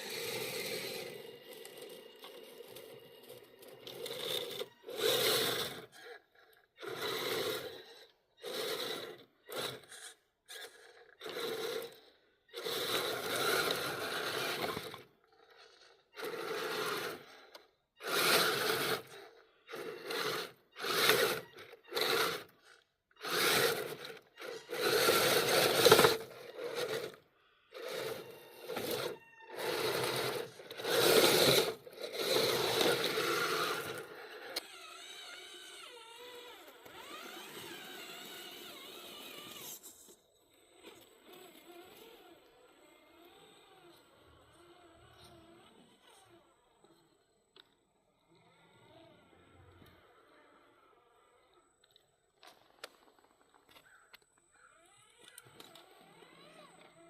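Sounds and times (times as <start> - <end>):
electric motor whining: 0.0 - 47.2, 55.0 - 57.0.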